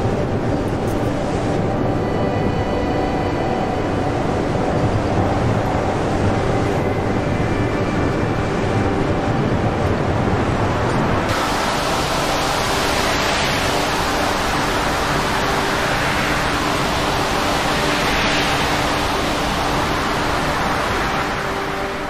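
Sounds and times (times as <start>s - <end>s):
heavy sea: 0.0s - 22.0s
storm wind roaring: 0.0s - 22.0s.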